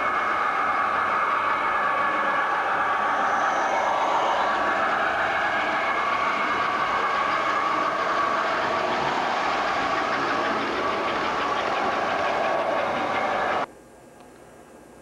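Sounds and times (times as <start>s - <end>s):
model train whirring and rattling: 0.0s - 13.7s
faint hum: 0.0s - 15.0s.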